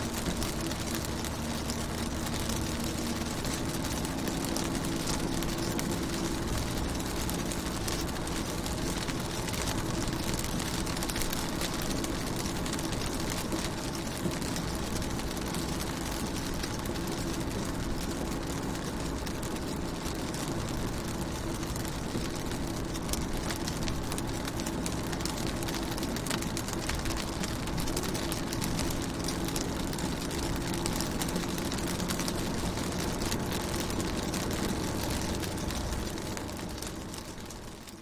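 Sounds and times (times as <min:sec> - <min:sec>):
rain on a car: 0:00.0 - 0:38.0.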